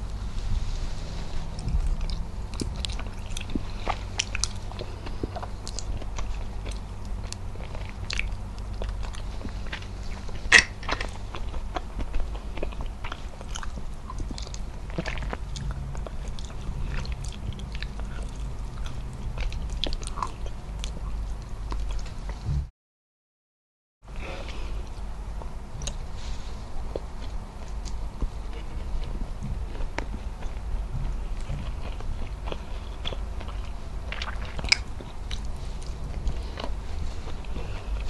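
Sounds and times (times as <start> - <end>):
low steady hum: 0.0 - 22.7, 24.1 - 38.0
chewing with smacking clicks: 1.6 - 22.2, 26.9 - 38.0.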